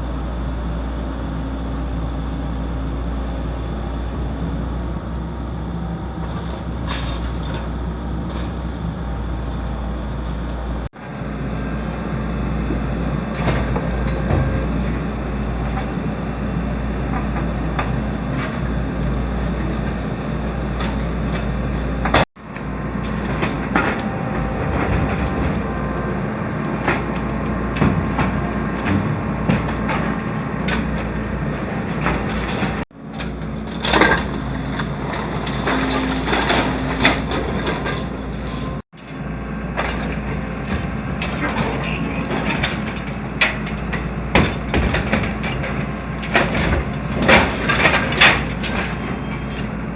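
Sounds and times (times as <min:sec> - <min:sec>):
excavator engine running: 0:00.0 - 0:49.9
demolition debris clattering: 0:03.8 - 0:49.9.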